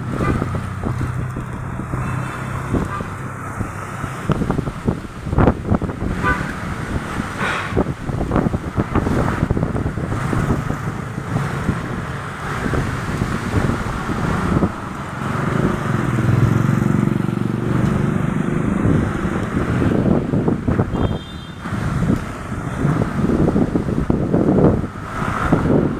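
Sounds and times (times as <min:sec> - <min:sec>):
gusty wind buffeting microphone: 0:00.0 - 0:25.9.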